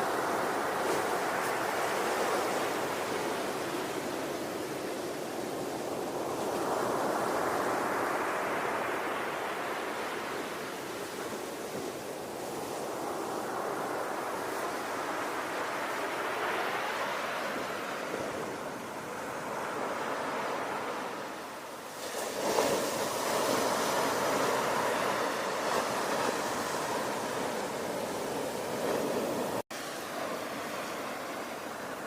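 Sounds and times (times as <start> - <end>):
ocean waves washing in: 0.0 - 32.0.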